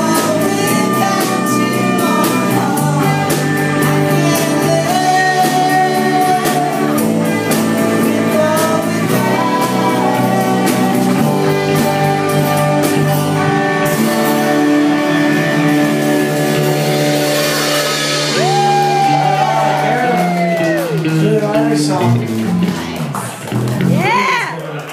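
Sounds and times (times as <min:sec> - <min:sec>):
rock band playing: 0:00.0 - 0:24.9.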